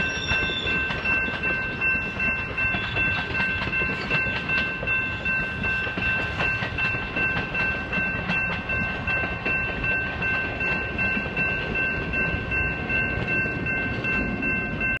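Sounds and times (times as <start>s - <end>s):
railroad crossing bell ringing: 0.0s - 15.0s
train rumble and wheel clatter: 0.0s - 15.0s.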